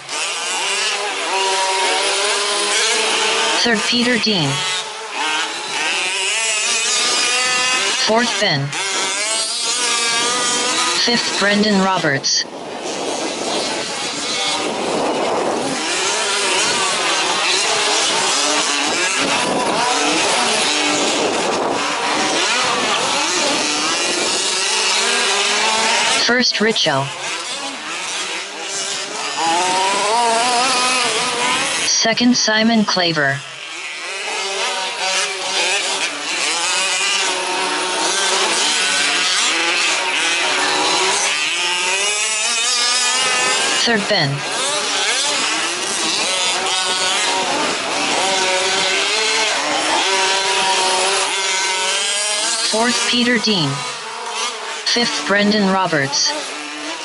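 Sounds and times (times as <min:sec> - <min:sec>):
rc truck engines revving: 0:00.0 - 0:57.0.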